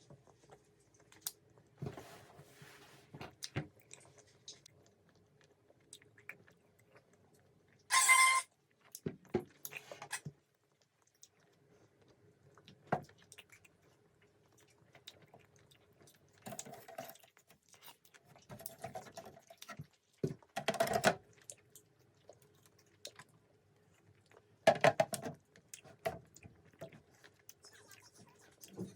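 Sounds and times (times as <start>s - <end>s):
chewing sticky candy: 3.4s - 7.9s, 8.5s - 20.6s, 21.2s - 24.6s, 25.4s - 28.9s.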